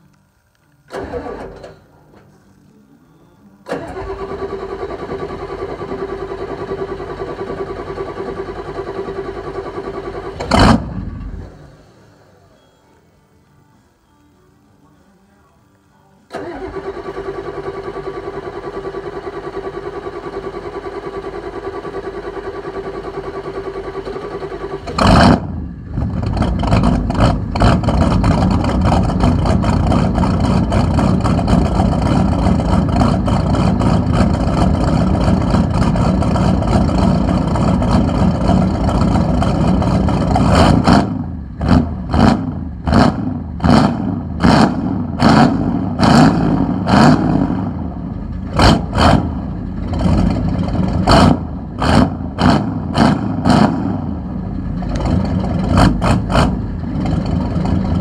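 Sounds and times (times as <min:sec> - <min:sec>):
diesel engine running rough: 0:03.6 - 0:12.5, 0:16.3 - 0:58.0
engine revving: 0:03.7 - 0:11.8, 0:16.3 - 0:58.0.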